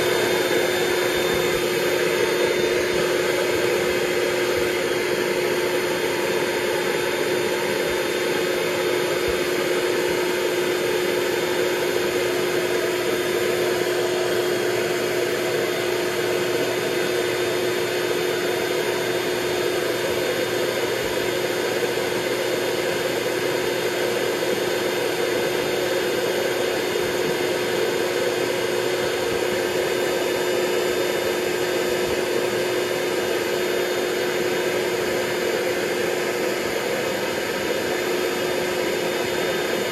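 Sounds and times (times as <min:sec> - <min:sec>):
electric air pump running: 0:00.0 - 0:39.9.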